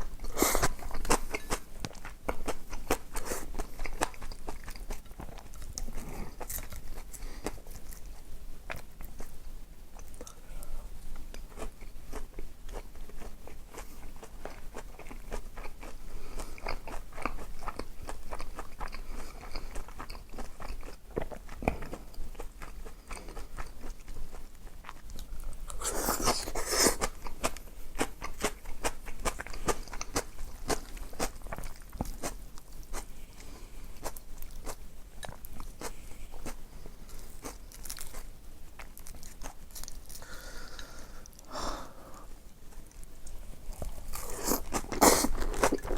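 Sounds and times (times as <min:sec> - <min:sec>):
person crunching and chewing food: 0:00.0 - 0:10.5, 0:11.1 - 0:41.8, 0:42.8 - 0:45.9.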